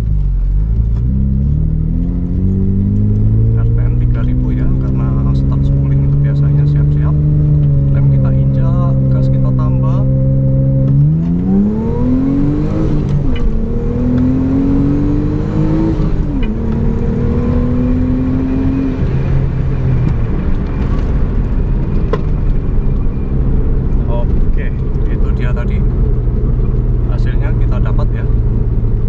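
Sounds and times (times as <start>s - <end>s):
turbocharged car engine revving: 0.0s - 29.0s.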